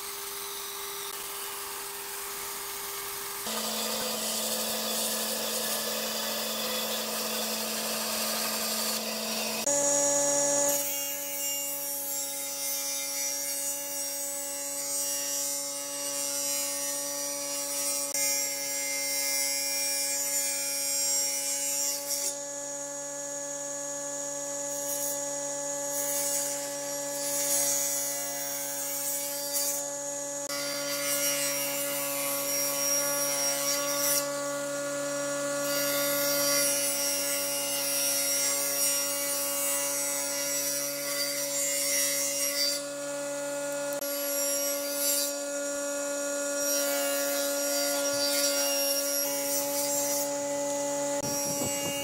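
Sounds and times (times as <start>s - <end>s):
table saw motor hum: 0.0s - 13.6s, 21.9s - 52.0s
saw blade cutting wood: 0.0s - 22.6s, 24.5s - 52.0s.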